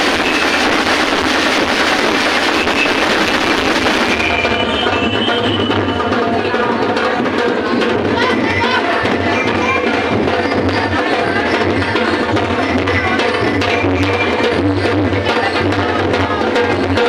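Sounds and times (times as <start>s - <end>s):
percussion-driven music: 0.0s - 17.0s.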